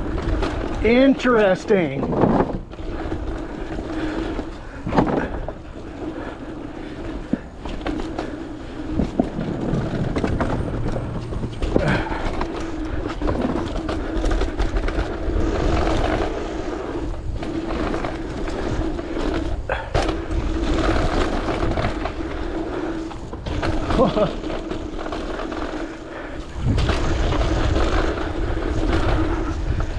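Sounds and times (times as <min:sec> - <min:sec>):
bike knocks and rattles: 0:00.0 - 0:29.9
bike tyres rumbling on dirt: 0:00.0 - 0:29.9.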